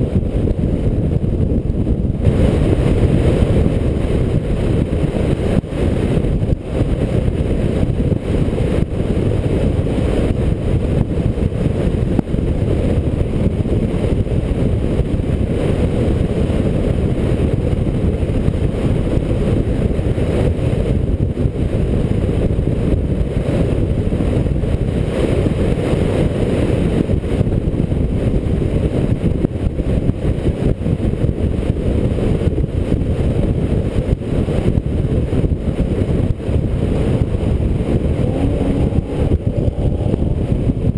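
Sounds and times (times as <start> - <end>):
car road and tyre noise: 0.0 - 40.9
wind rumble on camera: 0.0 - 40.9.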